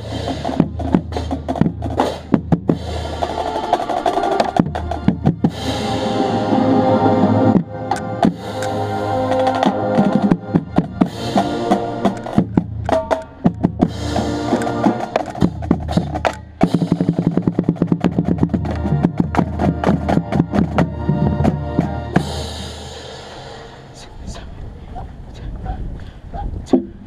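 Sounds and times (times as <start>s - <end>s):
brass and winds holding chords: 0.0s - 25.5s.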